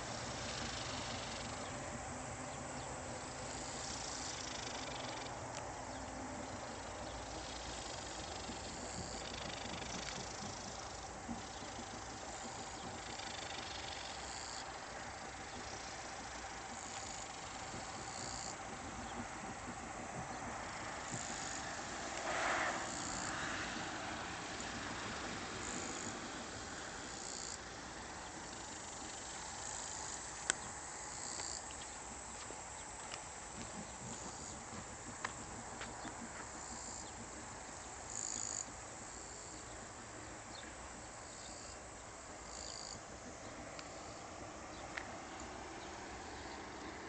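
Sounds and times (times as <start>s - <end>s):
insects calling: 0.0s - 47.0s
steady background hiss: 0.0s - 47.0s.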